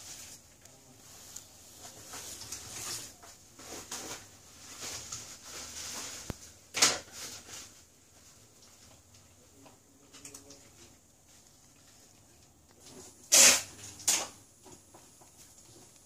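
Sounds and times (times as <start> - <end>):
faint rustling and handling: 0.0 - 14.0, 14.6 - 16.0.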